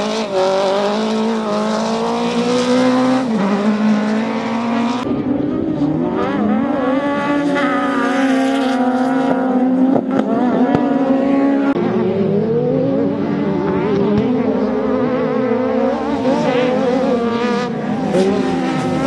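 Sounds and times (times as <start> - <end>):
buggy engines revving hard: 0.0 - 19.0.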